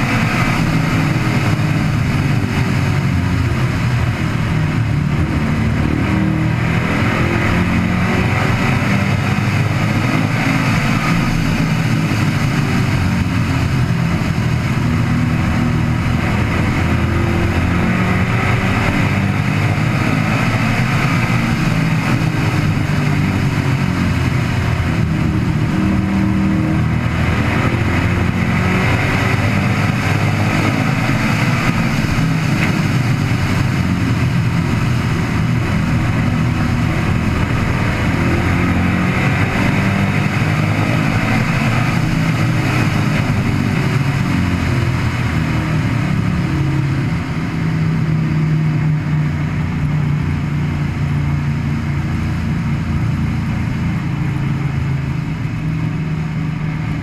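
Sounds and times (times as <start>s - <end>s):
race car engine running hard: 0.0s - 57.0s
wind and road noise: 0.0s - 57.0s.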